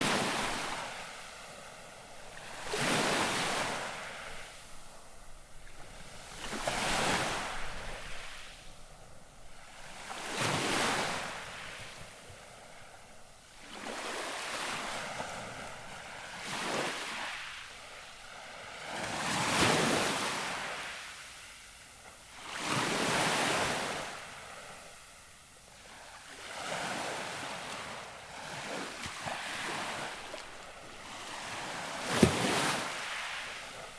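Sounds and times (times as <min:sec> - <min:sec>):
gentle waves lapping the shore: 0:00.0 - 0:33.9.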